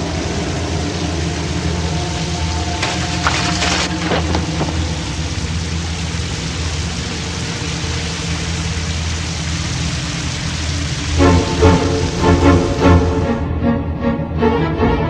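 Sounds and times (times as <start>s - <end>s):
shower water spraying: 0.0s - 13.2s
low steady hum: 0.0s - 13.6s.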